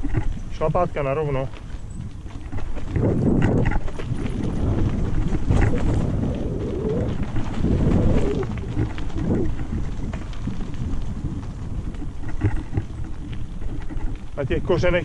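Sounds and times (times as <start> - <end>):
bike rattling over bumps: 0.0 - 15.0
tyres rumbling on dirt: 0.0 - 15.0
wind buffeting microphone: 0.0 - 15.0.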